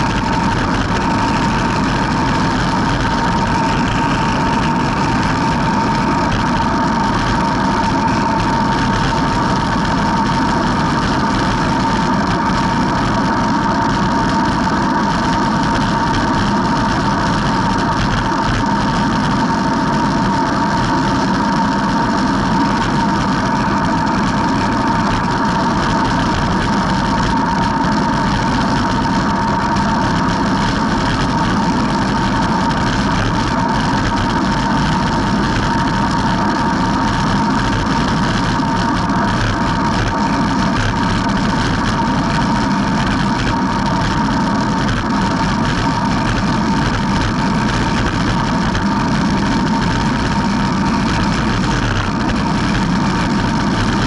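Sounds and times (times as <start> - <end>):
steady whining tone: 0.0 - 54.0
wind rumbling on microphone: 0.0 - 54.0.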